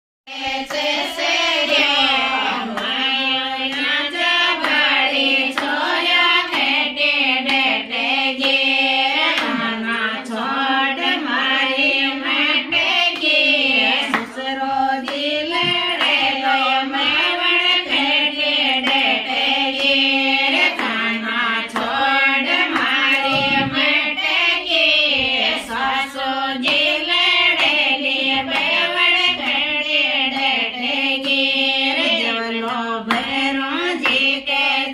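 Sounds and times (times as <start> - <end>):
women singing folk song together: 0.3 - 34.9.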